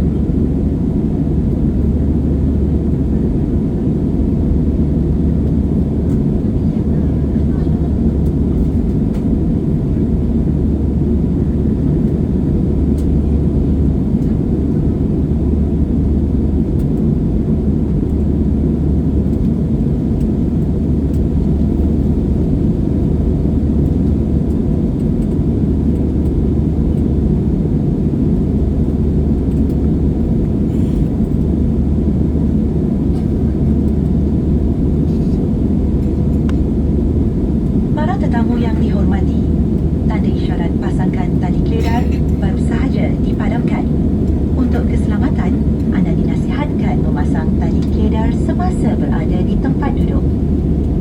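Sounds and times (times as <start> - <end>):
jet engines droning in cabin: 0.0 - 51.0.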